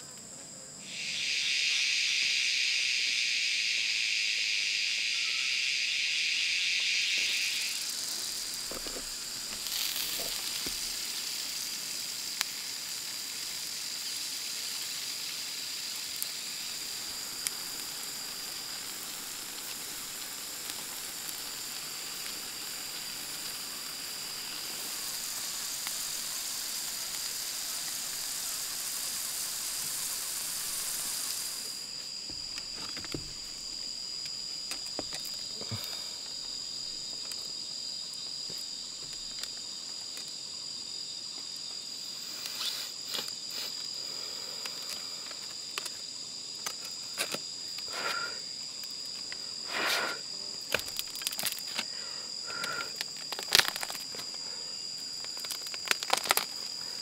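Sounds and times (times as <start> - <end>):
insects chirring: 0.0 - 57.0
broad hiss: 0.7 - 57.0.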